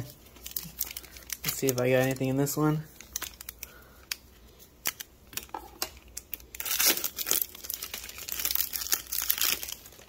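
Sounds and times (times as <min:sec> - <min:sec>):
foil wrapper tearing and crinkling: 0:00.4 - 0:03.7, 0:04.8 - 0:10.0.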